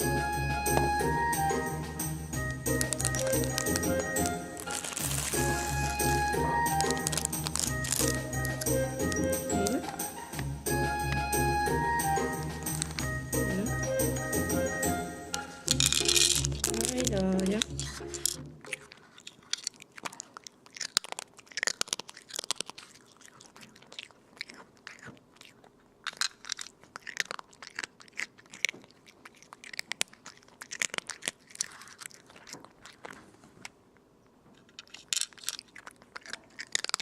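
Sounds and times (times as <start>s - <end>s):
cat chewing crunchy food: 2.4s - 13.6s, 15.4s - 37.0s.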